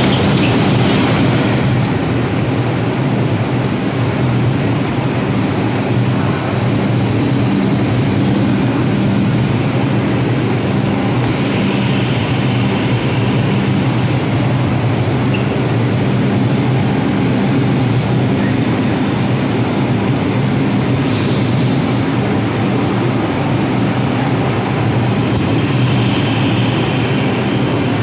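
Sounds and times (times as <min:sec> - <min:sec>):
station noise: 0:00.0 - 0:28.0
subway train humming: 0:00.0 - 0:28.0.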